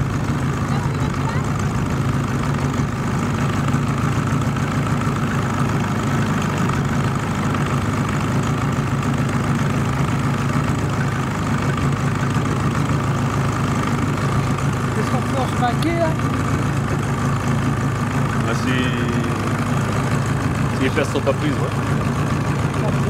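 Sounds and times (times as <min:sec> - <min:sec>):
outboard motor droning: 0:00.0 - 0:23.0.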